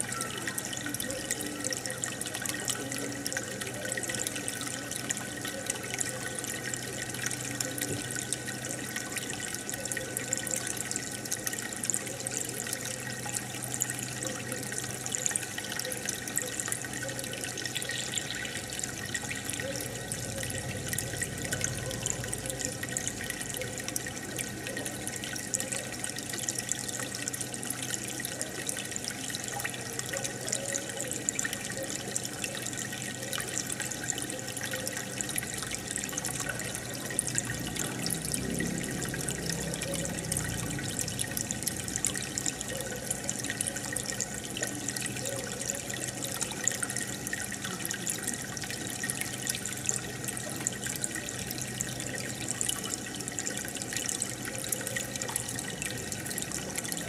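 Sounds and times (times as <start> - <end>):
aquarium water bubbling: 0.0 - 57.0.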